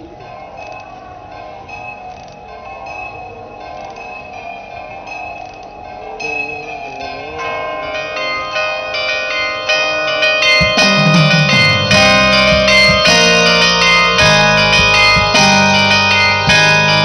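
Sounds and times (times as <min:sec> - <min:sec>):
carillon bells ringing: 0:00.0 - 0:17.0
deep low bell notes: 0:02.6 - 0:17.0.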